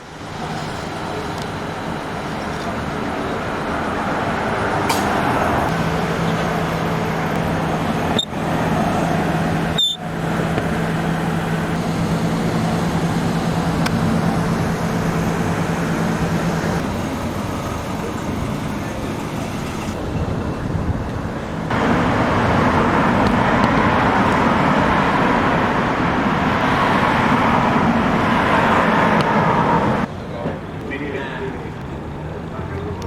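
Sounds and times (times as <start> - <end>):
engine hum: 0.0 - 33.0
road traffic passing: 0.0 - 33.0.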